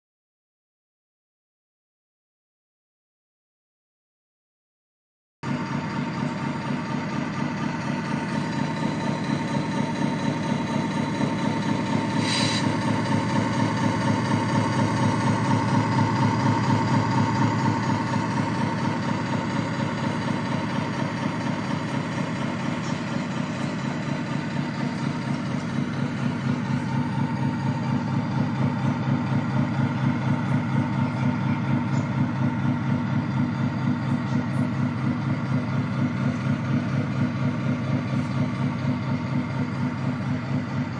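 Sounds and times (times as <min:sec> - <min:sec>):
diesel engine idle through speaker: 0:05.4 - 0:40.9.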